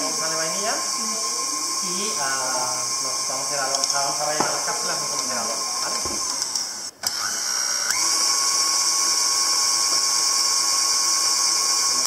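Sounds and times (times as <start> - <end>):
stand mixer motor whine: 0.0 - 12.0.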